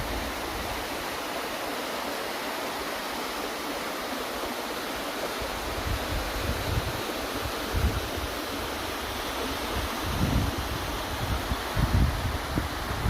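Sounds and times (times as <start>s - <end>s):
waterfall rushing water: 0.0s - 13.0s.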